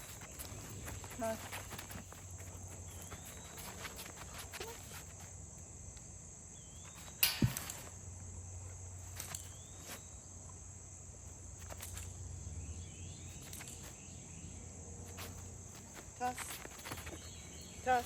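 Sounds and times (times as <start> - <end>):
faint insect chirping: 0.0 - 18.0.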